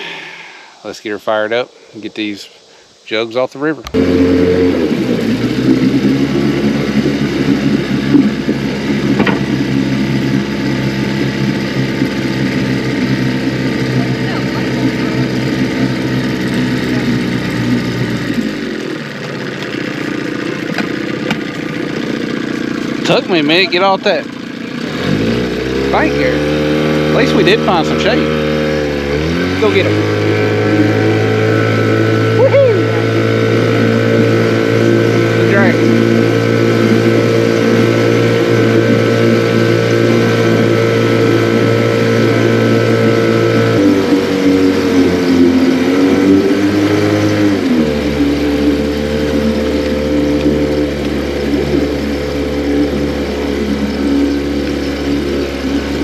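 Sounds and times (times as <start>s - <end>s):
boat motor running: 0.0s - 56.0s.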